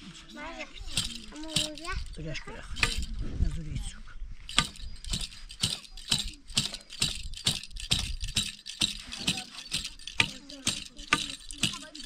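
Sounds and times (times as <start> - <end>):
rhythmic jingly rattling: 0.4 - 3.2, 4.4 - 12.0.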